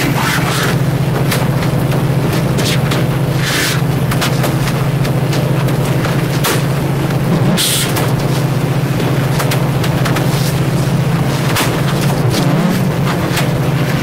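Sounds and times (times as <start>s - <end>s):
loud low hum: 0.0s - 14.0s.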